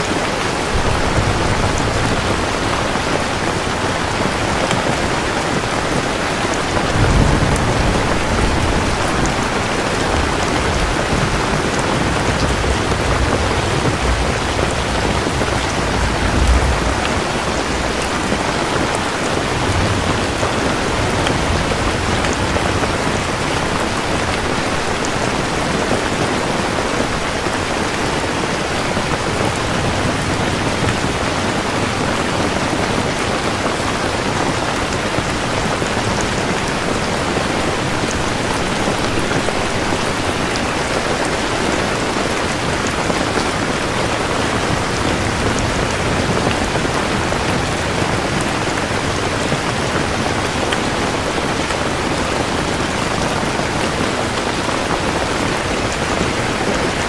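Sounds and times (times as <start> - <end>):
thunder rolling: 0.0 - 51.3
heavy rain: 0.0 - 57.0.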